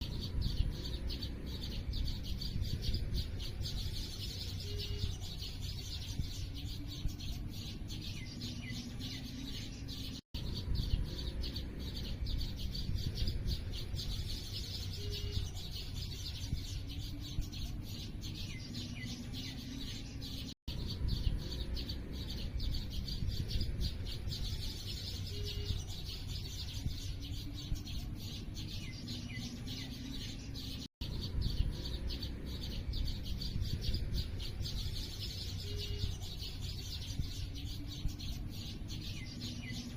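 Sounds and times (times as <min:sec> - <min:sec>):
small birds chirping: 0:00.0 - 0:39.9
steady low rumble: 0:00.0 - 0:39.9.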